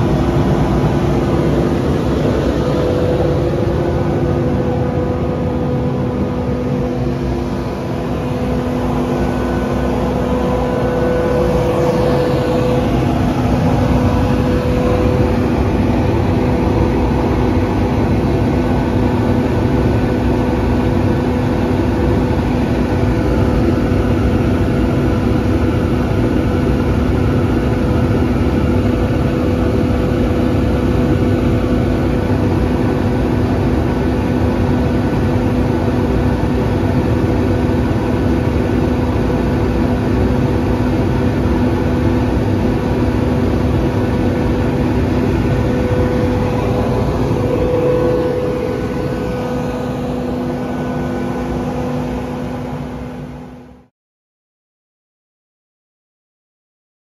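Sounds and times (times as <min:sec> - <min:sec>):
air compressor humming: 0:00.0 - 0:53.8.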